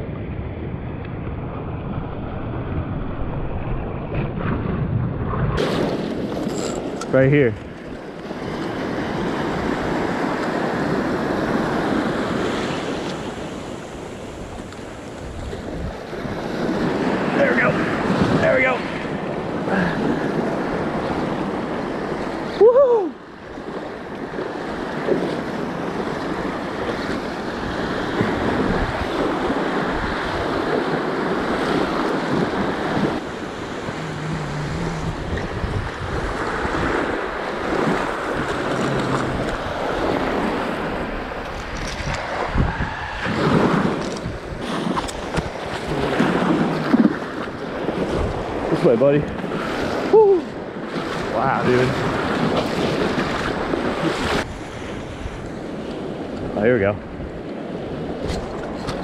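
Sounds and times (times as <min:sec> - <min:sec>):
ocean surf breaking: 0:00.0 - 0:59.0
wind buffeting microphone: 0:00.0 - 0:59.0.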